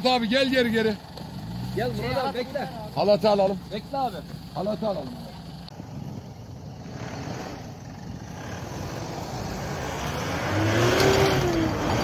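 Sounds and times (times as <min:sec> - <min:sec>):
pickup engine running under load: 0:00.0 - 0:12.0.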